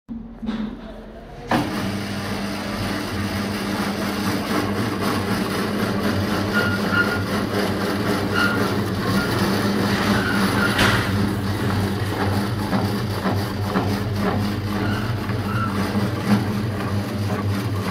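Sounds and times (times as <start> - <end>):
shredding machine motor humming: 1.5 - 17.9.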